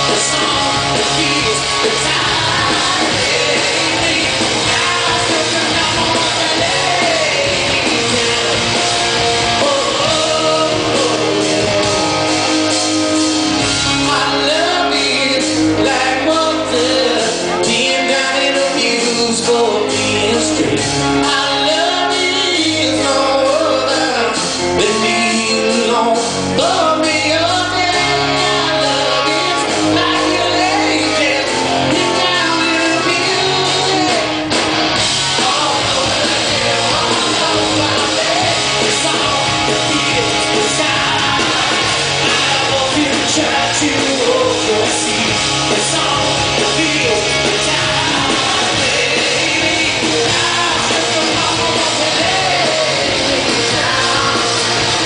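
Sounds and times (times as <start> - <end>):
man singing: 0.0 - 34.5, 35.2 - 55.0
bass guitar: 0.0 - 55.0
drums: 0.0 - 55.0
electric guitar: 0.0 - 55.0.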